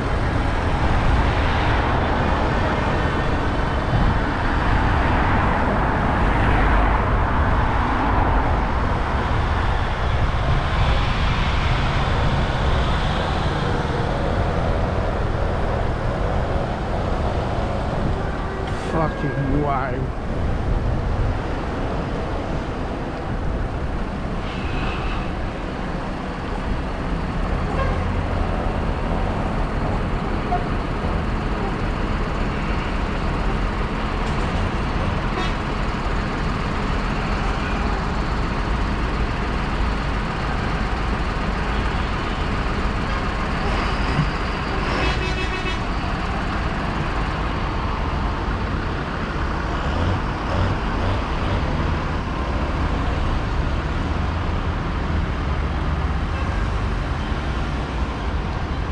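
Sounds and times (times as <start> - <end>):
road vehicles passing: 0.0 - 58.9
tractor engines droning: 0.0 - 58.9.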